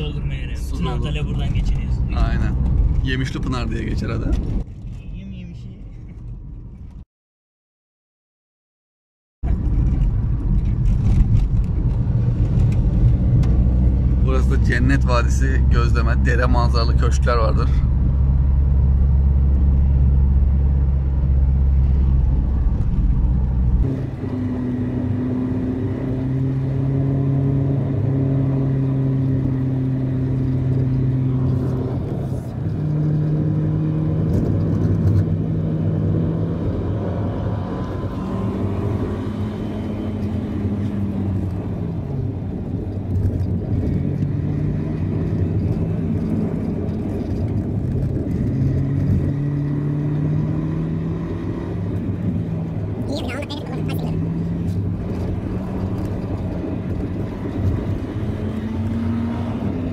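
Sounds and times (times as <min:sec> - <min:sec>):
car engine hum: 0:00.0 - 0:07.0, 0:09.4 - 0:59.9
road noise inside car: 0:00.0 - 0:07.0, 0:09.4 - 0:59.9.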